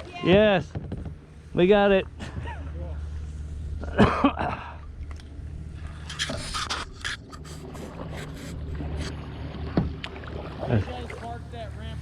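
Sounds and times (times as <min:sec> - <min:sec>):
motorboat engine idling: 0:00.0 - 0:12.0.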